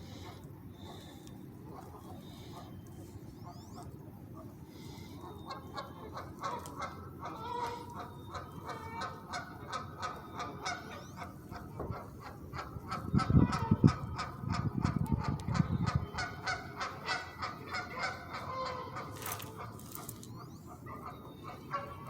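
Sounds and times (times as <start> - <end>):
geese honking: 0.0 - 22.0
low background rumble: 0.0 - 22.0.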